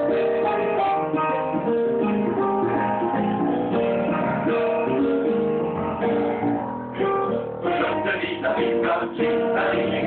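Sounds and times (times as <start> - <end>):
strummed acoustic guitar music: 0.0 - 8.8.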